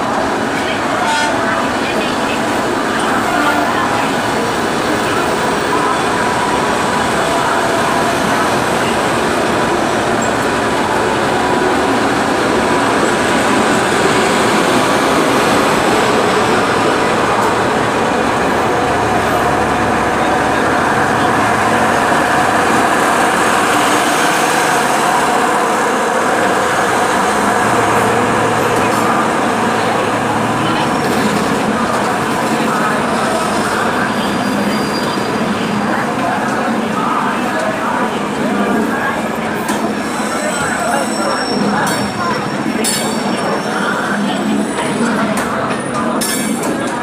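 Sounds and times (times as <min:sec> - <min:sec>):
train wheels rushing on rails: 0:00.0 - 0:47.0.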